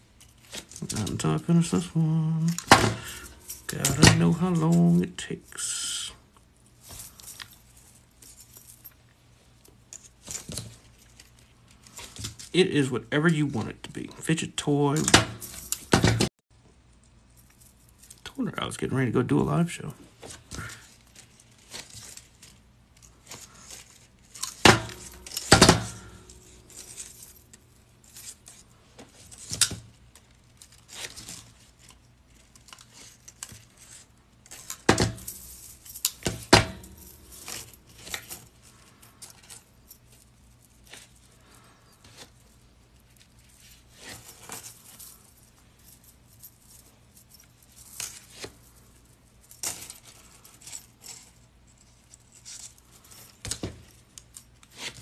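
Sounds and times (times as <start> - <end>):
chainmail rings clinking: 0.0 - 16.3, 16.9 - 19.1, 19.7 - 55.0.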